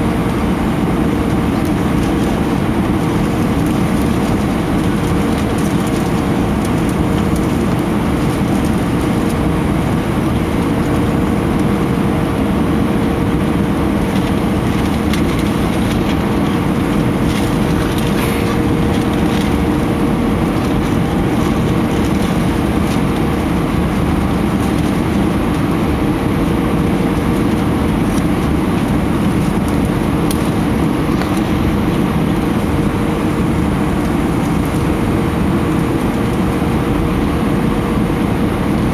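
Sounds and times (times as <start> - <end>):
airplane cabin engine noise: 0.0 - 38.9
steady hum: 0.0 - 38.9.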